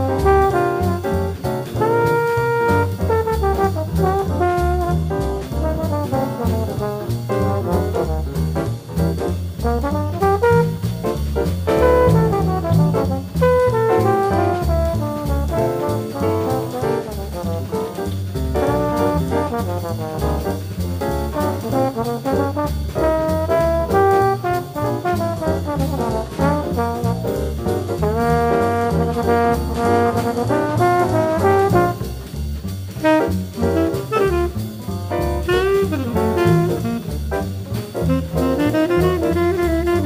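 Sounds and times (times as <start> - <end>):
bass: 0.0 - 40.0
drums: 0.0 - 40.0
trombone playing fast run: 0.0 - 40.0.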